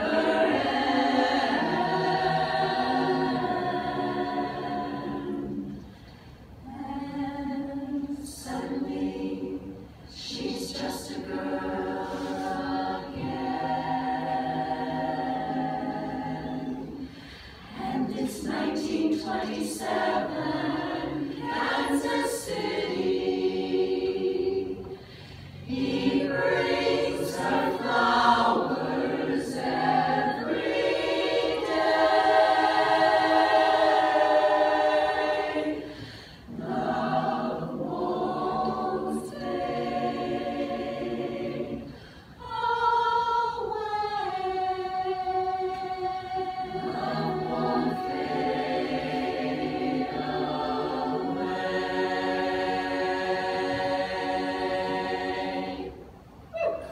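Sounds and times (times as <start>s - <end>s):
women's chorus singing: 0.0s - 6.0s, 6.6s - 56.9s.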